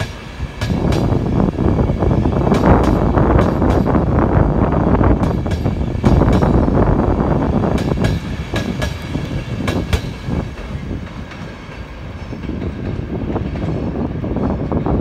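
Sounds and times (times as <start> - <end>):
wheels clicking over rail joints: 0.0 - 4.2, 5.2 - 6.8, 7.5 - 15.0
train rumbling: 0.0 - 15.0.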